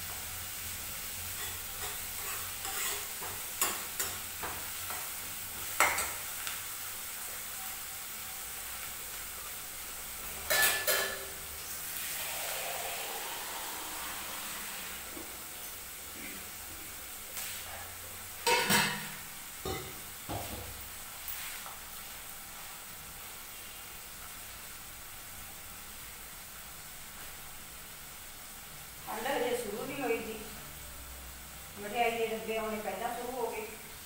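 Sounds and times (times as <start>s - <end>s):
onion sizzling in oil: 0.0s - 34.0s.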